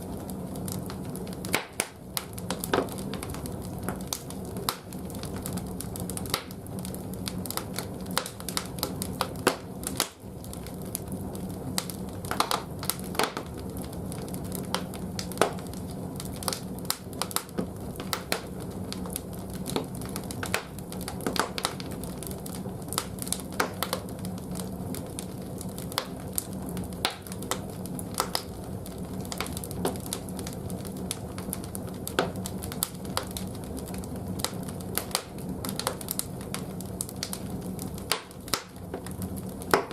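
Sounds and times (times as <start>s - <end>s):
logs crackling and popping in fire: 0.0s - 39.9s.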